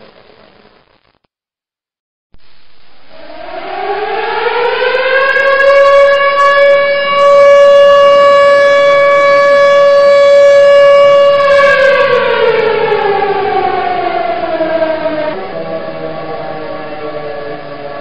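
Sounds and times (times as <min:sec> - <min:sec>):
siren wailing: 0:03.0 - 0:18.0.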